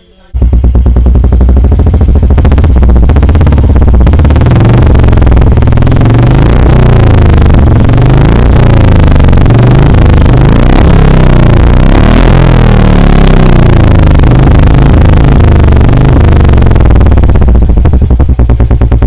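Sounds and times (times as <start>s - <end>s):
motorcycle engine exhaust thumping: 0.3s - 19.0s.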